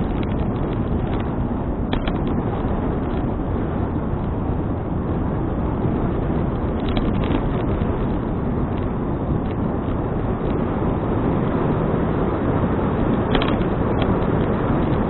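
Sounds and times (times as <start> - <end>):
road rumble: 0.0 - 15.0
wind rushing over microphone: 0.0 - 15.0.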